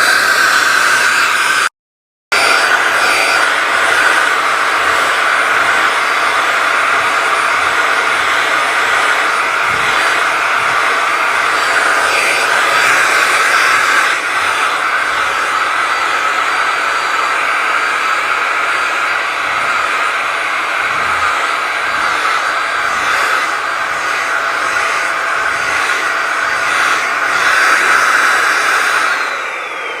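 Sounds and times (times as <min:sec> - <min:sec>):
vacuum cleaner running: 0:00.0 - 0:01.7, 0:02.3 - 0:30.0.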